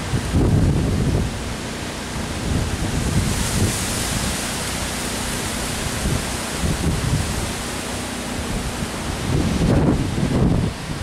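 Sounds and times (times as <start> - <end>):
strong wind rushing through trees: 0.0 - 11.0
wind buffeting microphone: 0.0 - 11.0.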